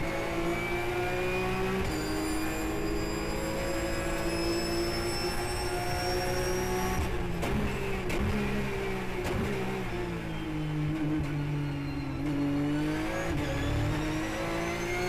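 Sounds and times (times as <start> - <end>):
race car engine at full throttle: 0.0 - 15.0.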